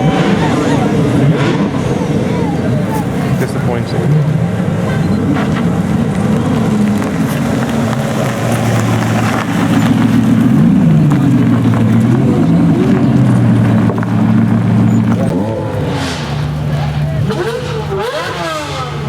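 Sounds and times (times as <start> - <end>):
car engine idling low: 0.0 - 19.0
engine throttle blips: 0.0 - 19.0.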